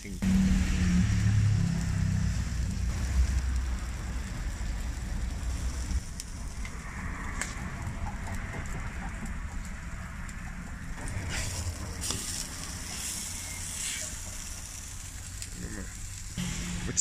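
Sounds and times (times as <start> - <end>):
food sizzling on griddle: 0.0 - 9.8, 11.0 - 17.0
low rumble: 0.2 - 17.0.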